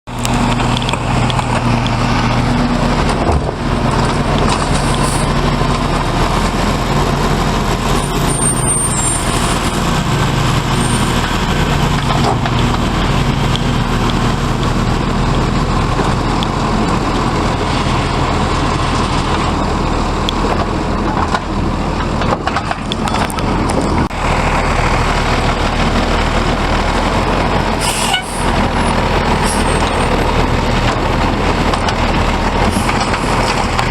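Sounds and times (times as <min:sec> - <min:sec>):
garbage truck engine running: 0:00.1 - 0:33.9.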